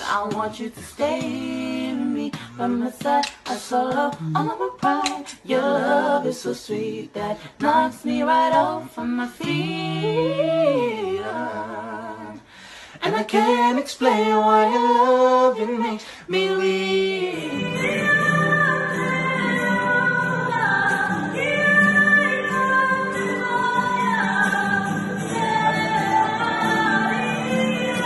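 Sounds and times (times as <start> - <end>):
woman singing: 0.0 - 28.0
young voices singing unaccompanied: 0.0 - 28.0.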